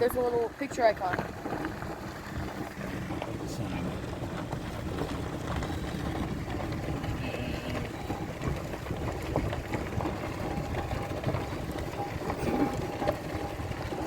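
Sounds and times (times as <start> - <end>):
tyre and road rumble: 0.0 - 14.0.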